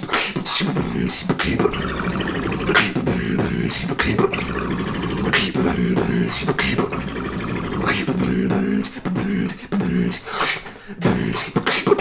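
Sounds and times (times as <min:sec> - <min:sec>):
beatbox snare mouth hits: 0:00.0 - 0:12.0.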